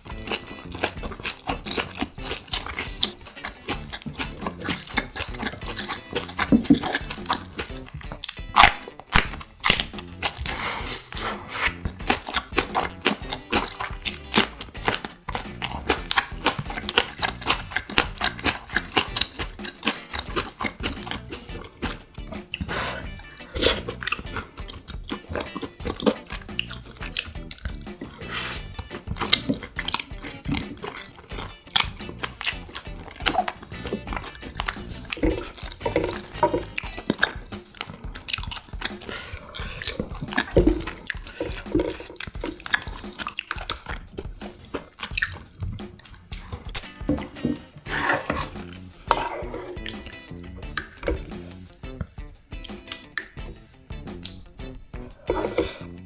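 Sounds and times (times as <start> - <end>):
chewing and biting meat: 0.0 - 56.0
wet mouth sounds: 0.0 - 56.0.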